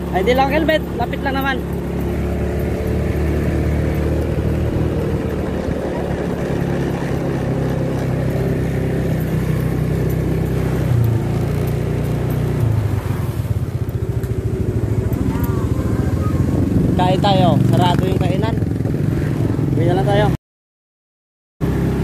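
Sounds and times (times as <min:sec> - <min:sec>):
scooter engine running: 0:00.0 - 0:20.3, 0:21.6 - 0:22.0.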